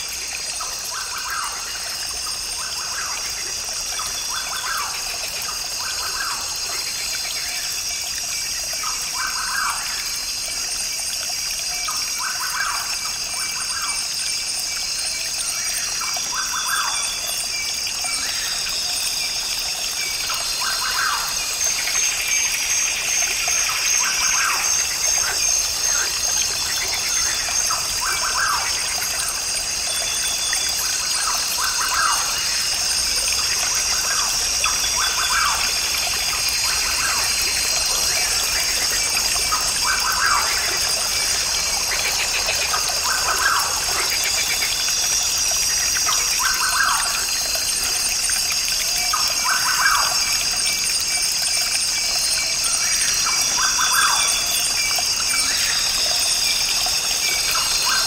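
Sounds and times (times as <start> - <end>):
brook trickling: 0.0 - 58.0
high-pitched insect chorus: 0.0 - 58.0.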